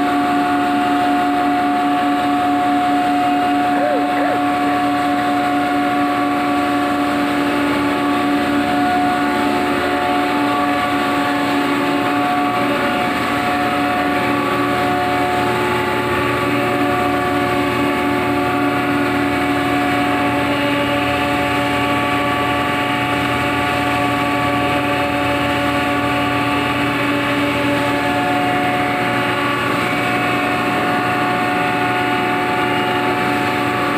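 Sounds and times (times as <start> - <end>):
grinding machinery drone: 0.0 - 33.9
machine whining tones: 0.0 - 33.9.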